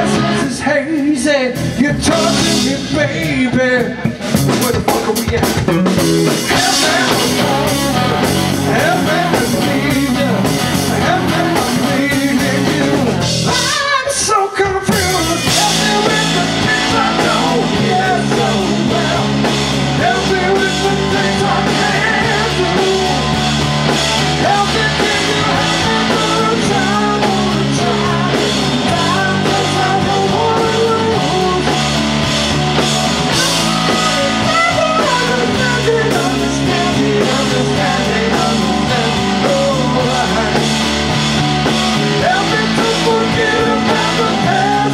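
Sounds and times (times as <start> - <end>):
heavy bass line: 0.0 - 0.8, 1.5 - 13.8, 14.9 - 44.9
man singing: 0.0 - 32.4, 33.2 - 44.9
live rock band playing: 0.0 - 44.9.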